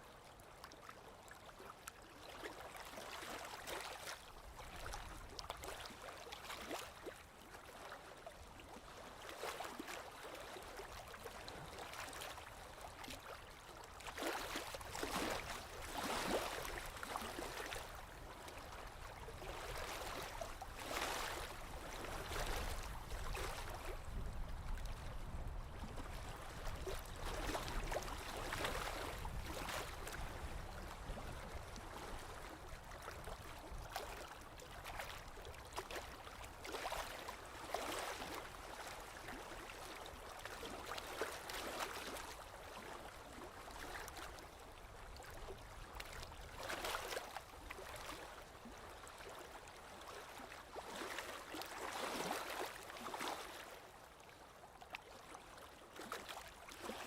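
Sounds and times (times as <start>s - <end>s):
lake waves lapping on shore: 0.1s - 57.0s.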